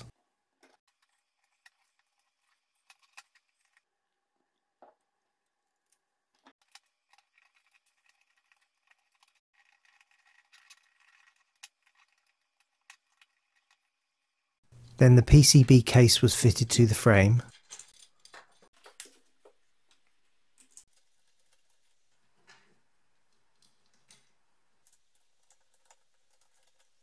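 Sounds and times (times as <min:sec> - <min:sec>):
small parts clicking and tapping: 0:00.0 - 0:03.9, 0:05.8 - 0:15.0, 0:17.5 - 0:27.0.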